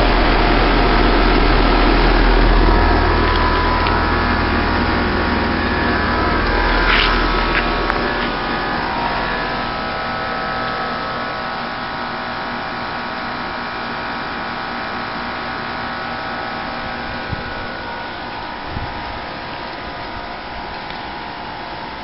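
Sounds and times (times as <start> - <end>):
heat pump humming: 0.0 - 22.0.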